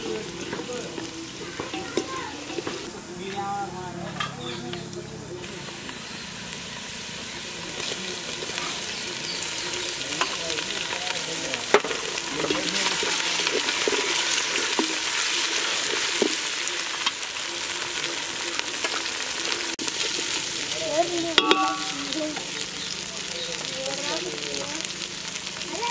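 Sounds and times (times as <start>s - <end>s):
onions sizzling in oil: 0.0s - 25.9s.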